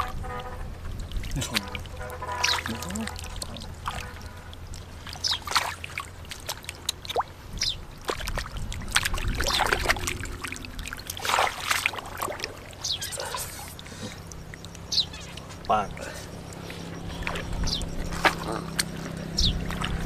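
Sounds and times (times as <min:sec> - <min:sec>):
shallow water splashing: 0:00.0 - 0:20.0.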